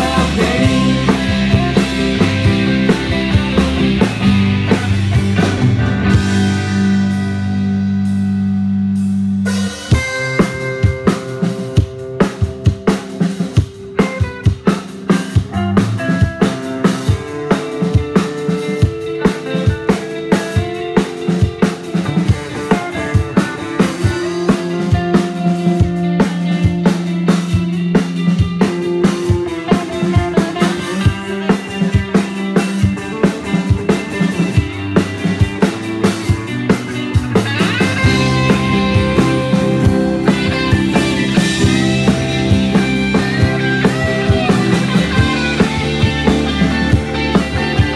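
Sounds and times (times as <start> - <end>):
bass guitar: 0.0 - 47.9
drum kit beat: 0.0 - 47.9
electric guitar: 0.0 - 47.9.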